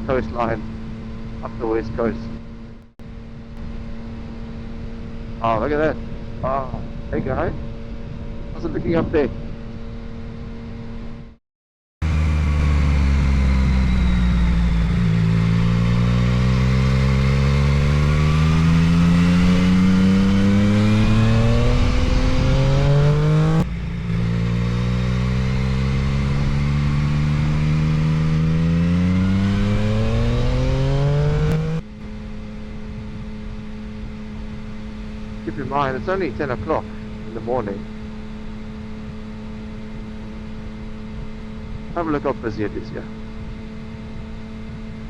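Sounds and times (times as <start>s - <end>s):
motorcycle engine accelerating: 0.0s - 11.4s, 12.0s - 45.0s.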